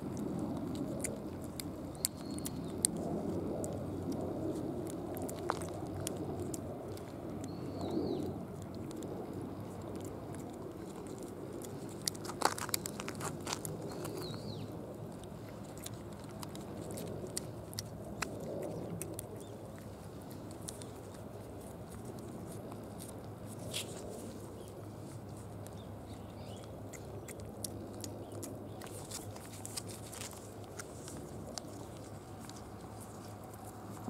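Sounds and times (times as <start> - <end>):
steady low rush: 0.0 - 34.0.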